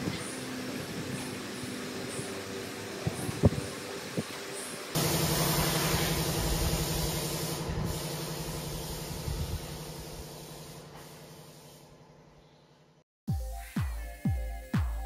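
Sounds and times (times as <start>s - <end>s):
machine hum with hiss: 0.0s - 12.3s.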